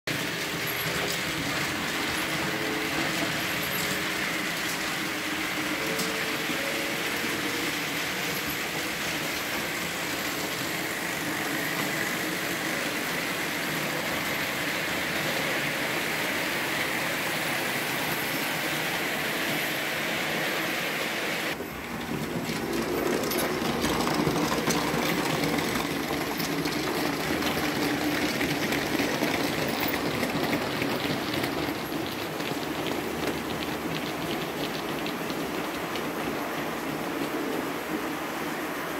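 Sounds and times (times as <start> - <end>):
model trains whirring and rattling: 0.1 - 38.9.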